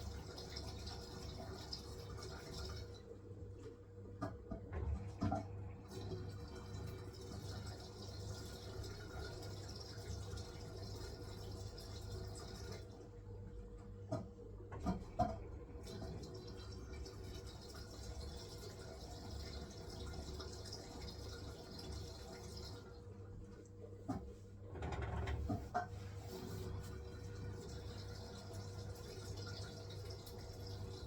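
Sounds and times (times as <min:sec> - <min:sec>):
water hissing into washing machine: 0:00.0 - 0:03.1, 0:04.7 - 0:13.1, 0:14.1 - 0:23.1, 0:24.2 - 0:31.0
washing machine low hum: 0:00.0 - 0:31.0.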